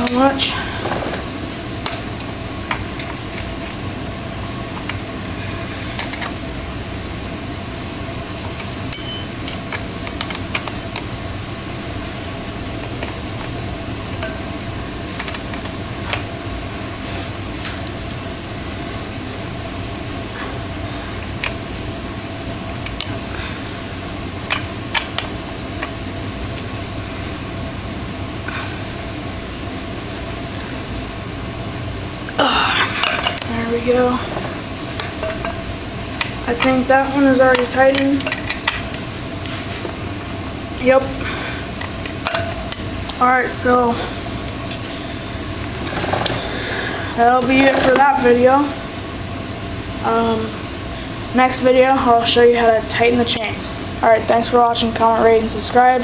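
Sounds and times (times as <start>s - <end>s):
steady background hum: 0.0s - 56.0s.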